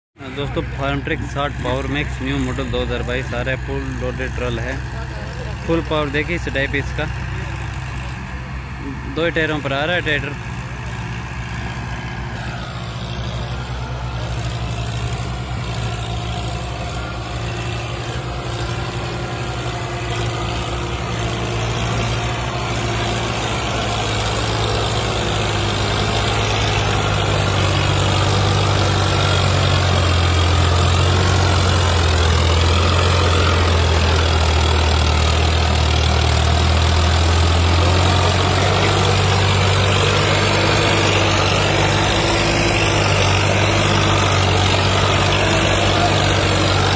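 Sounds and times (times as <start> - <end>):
tractor diesel engine droning: 0.2 - 46.9.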